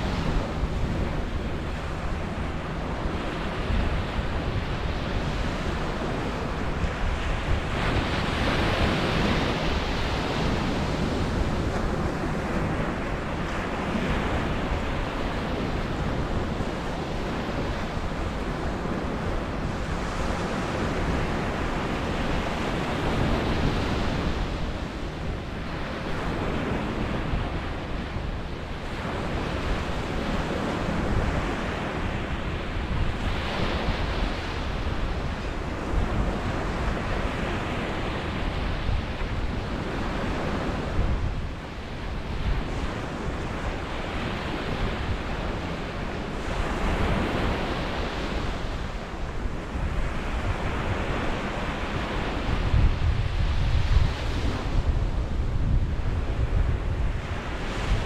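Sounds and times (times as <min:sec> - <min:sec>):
surf washing on sandy beach: 0:00.0 - 0:58.0.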